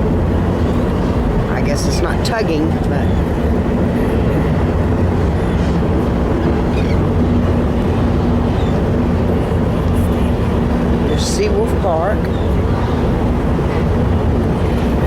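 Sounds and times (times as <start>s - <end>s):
ferry diesel engines droning: 0.0s - 15.0s
wind and water rushing: 0.0s - 15.0s.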